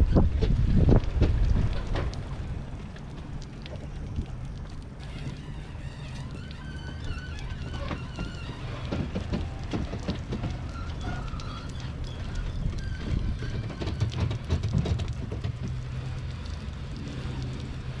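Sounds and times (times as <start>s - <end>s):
boat and trailer rattling: 0.0s - 18.0s
low towing rumble: 0.0s - 18.0s.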